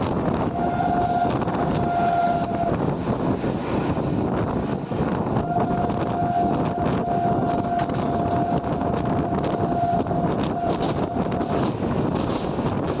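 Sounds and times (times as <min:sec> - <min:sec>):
train rumbling past: 0:00.0 - 0:13.0
wind buffeting microphone: 0:00.0 - 0:13.0.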